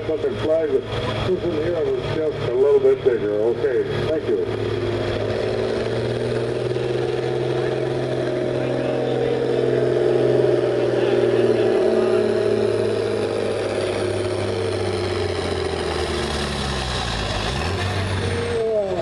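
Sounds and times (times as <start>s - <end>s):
tractor engine lugging under load: 0.0s - 18.6s.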